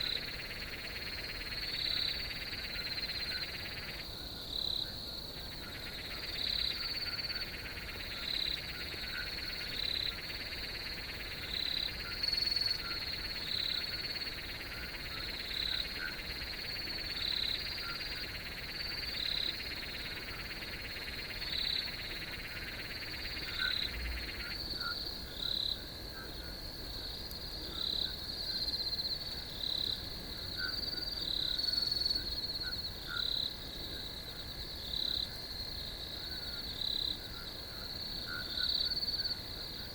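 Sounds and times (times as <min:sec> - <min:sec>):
crickets chirping: 0:00.0 - 0:39.9
low buzzing insect chorus: 0:00.0 - 0:39.9.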